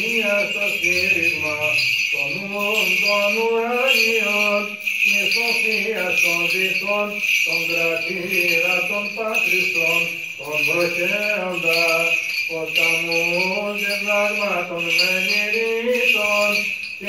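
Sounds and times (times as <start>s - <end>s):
man chanting: 0.0s - 16.8s
small bells jingling: 0.0s - 17.0s.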